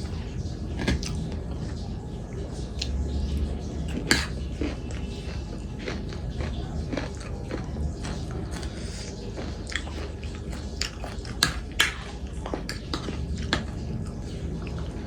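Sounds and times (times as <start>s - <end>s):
person chewing and biting food: 0.0s - 1.5s, 3.8s - 15.0s.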